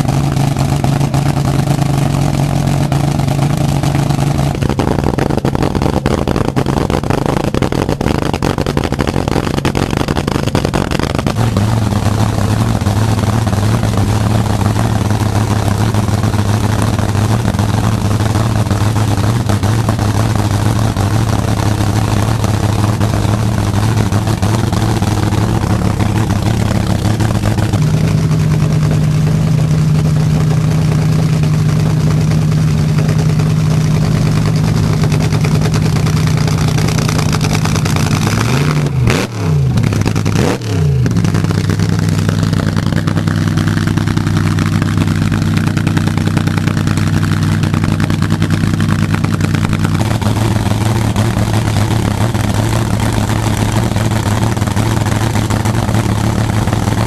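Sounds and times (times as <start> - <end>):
dragster engine idling: 0.0 - 57.0.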